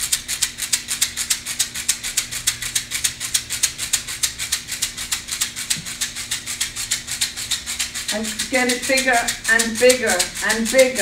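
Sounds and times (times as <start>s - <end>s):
hand rattle shaken: 0.0s - 11.0s.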